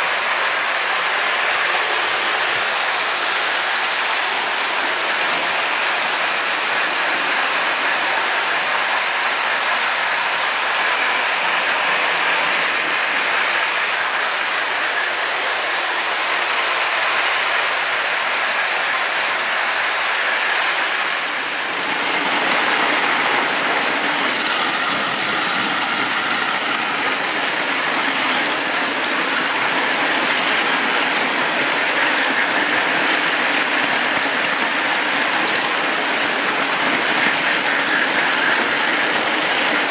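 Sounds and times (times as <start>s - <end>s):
toy trains whirring rattle: 0.0s - 39.9s.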